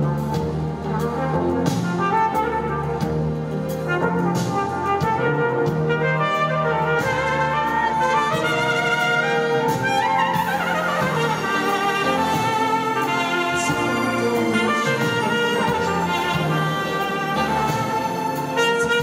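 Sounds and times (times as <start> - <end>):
orchestra and band playing: 0.0 - 19.0
trumpet solo: 0.0 - 19.0.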